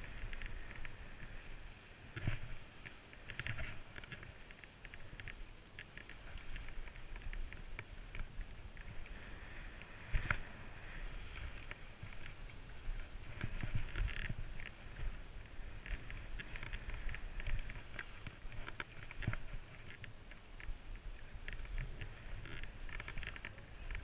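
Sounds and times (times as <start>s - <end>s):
skis scraping over snow: 0.0s - 24.0s
wind rumble on microphone: 0.0s - 24.0s.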